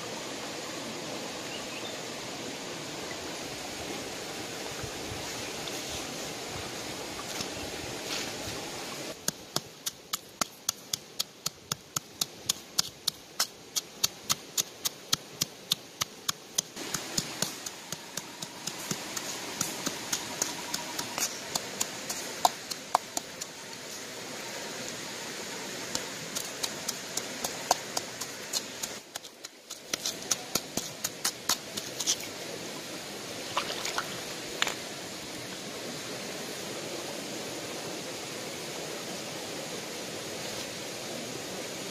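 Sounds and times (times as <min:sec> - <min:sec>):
shallow stream rushing: 0:00.0 - 0:41.9.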